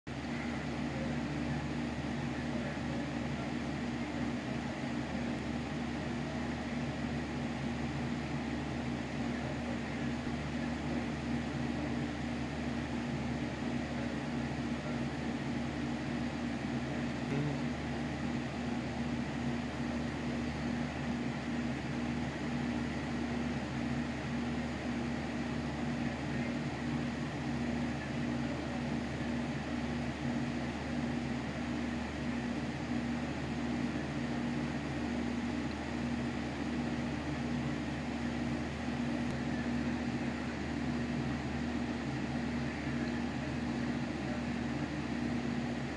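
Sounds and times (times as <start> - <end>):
low mechanical hum: 0.1 - 45.9.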